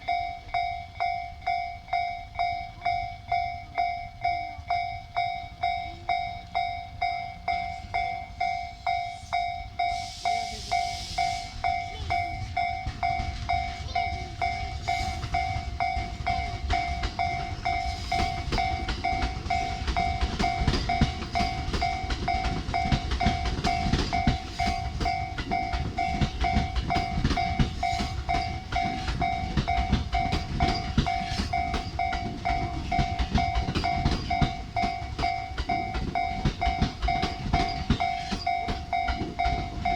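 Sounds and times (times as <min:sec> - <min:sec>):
level crossing alarm dinging: 0:00.0 - 0:39.9
train wheels clicking over rail joints: 0:00.0 - 0:39.9.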